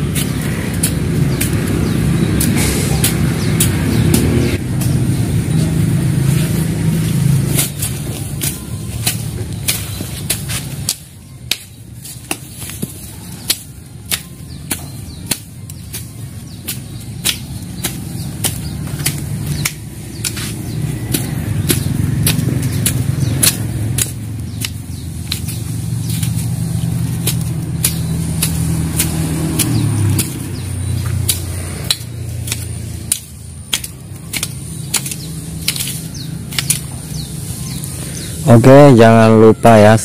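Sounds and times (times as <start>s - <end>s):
low engine hum: 0.0s - 38.8s
blade chopping grass and soil: 0.0s - 39.0s.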